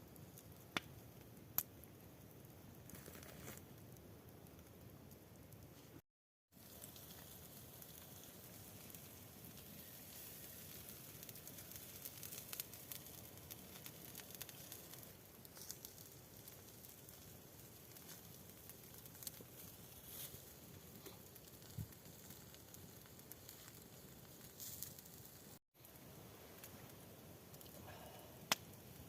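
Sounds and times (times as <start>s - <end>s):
campfire crackling and popping: 0.0s - 6.0s, 6.6s - 29.0s.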